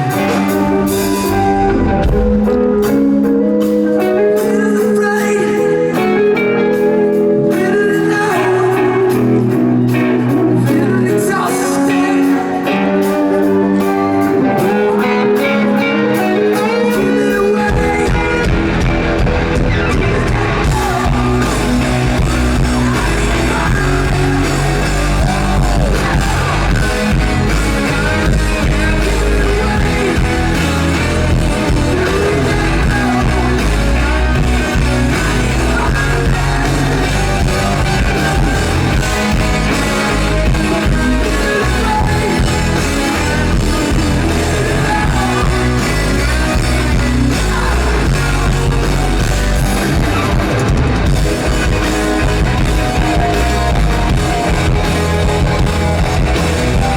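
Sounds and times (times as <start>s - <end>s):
drums: 0.0s - 56.9s
electric guitars: 0.0s - 56.9s
person singing: 0.0s - 56.9s.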